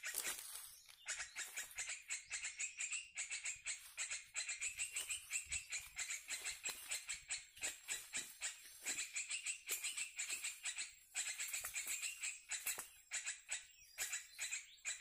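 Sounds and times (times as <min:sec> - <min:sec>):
short high chirping calls: 0:00.0 - 0:15.0.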